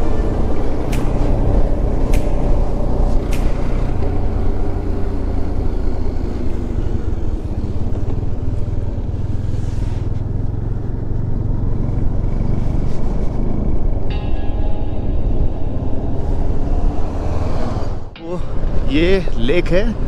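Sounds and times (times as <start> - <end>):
motorcycle engine running: 0.0 - 18.9
wind and road noise: 0.0 - 20.0.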